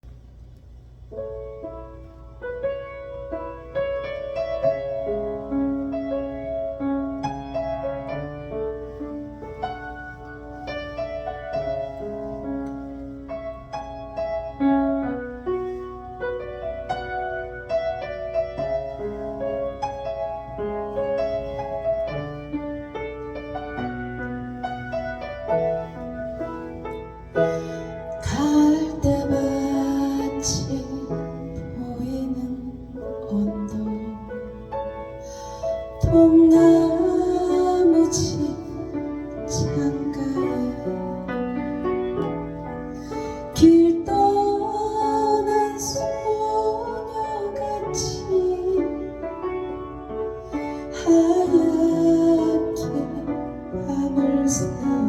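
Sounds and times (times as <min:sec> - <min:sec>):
piano notes and chords: 0:00.0 - 0:55.0.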